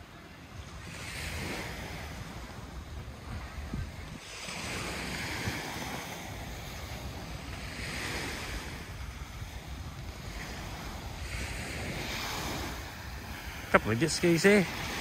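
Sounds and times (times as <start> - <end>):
sea waves washing onto sand: 0.0 - 15.0
wind rumbling on microphone: 0.0 - 15.0.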